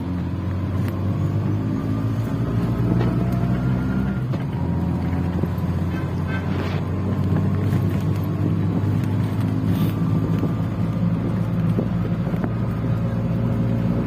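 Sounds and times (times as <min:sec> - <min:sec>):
auto-rickshaw engine running: 0:00.0 - 0:14.0.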